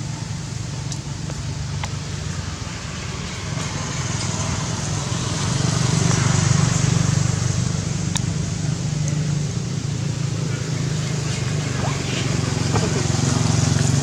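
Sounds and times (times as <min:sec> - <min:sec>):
motor engine running: 0:00.0 - 0:14.0.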